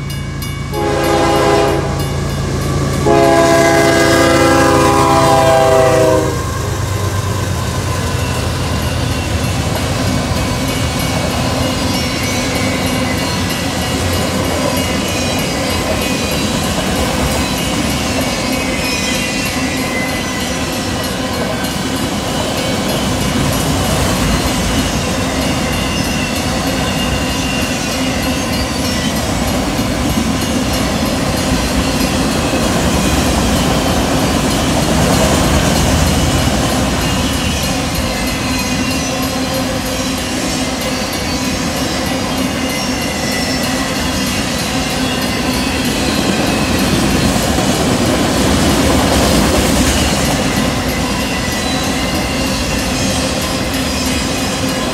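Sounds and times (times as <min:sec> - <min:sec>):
rumble of train wheels on rail: 0:00.0 - 0:54.9.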